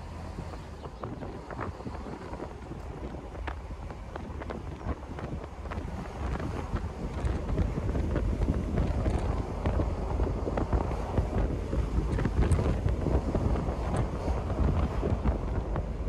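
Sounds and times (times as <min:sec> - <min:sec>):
car road noise: 0:00.0 - 0:16.0
wind buffeting microphone: 0:00.0 - 0:16.0.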